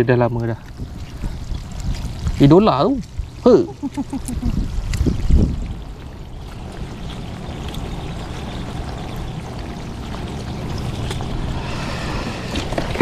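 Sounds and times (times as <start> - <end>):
seawater sloshing and trickling: 0.0 - 13.0.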